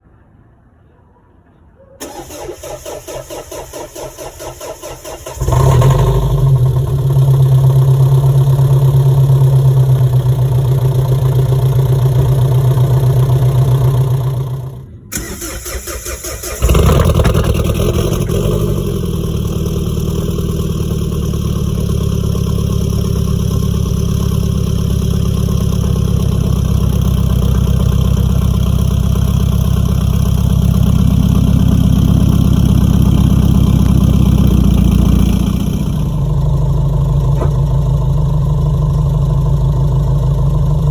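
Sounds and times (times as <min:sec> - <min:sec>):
engine cranking: 0:02.0 - 0:39.6
diesel engine idling: 0:02.0 - 0:40.9.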